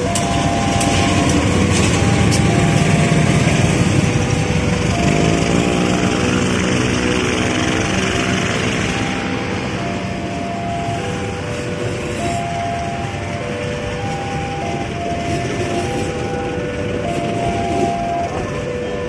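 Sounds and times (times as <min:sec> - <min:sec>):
level crossing warning tones: 0:00.0 - 0:19.0
locomotive engine drone: 0:00.0 - 0:19.0
train wheels rumbling on track: 0:00.0 - 0:19.0.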